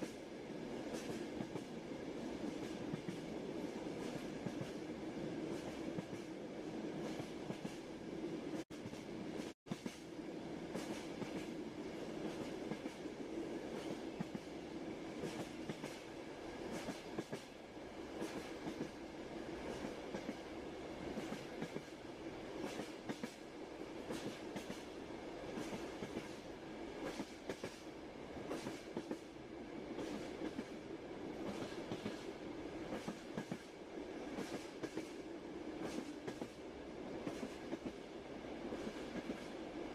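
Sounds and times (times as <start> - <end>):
rail joint clicks: 0.0 - 39.9
train wheels rumbling on rails: 0.0 - 39.9.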